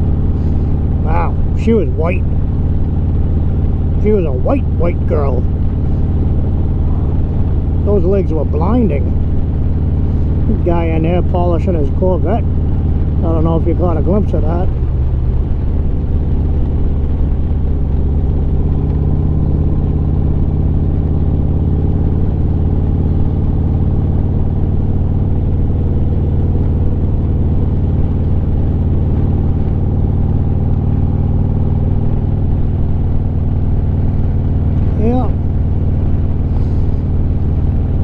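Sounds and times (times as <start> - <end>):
motorcycle engine droning: 0.0 - 38.0.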